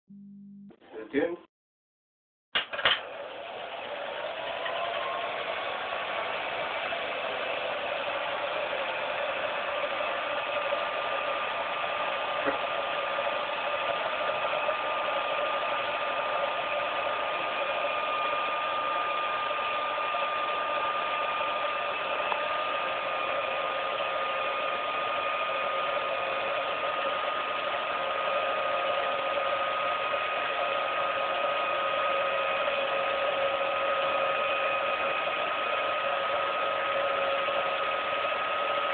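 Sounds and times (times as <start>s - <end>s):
film projector whirring: 2.6s - 38.9s.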